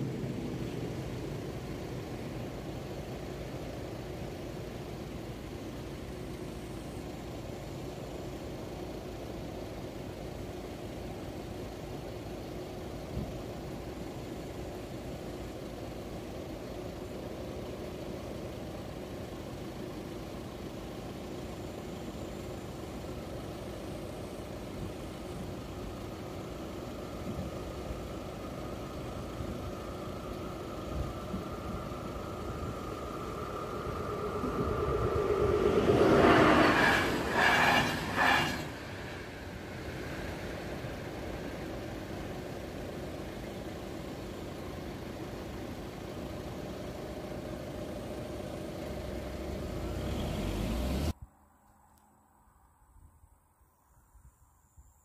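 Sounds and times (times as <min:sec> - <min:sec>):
car engine idling: 0:00.0 - 0:51.2.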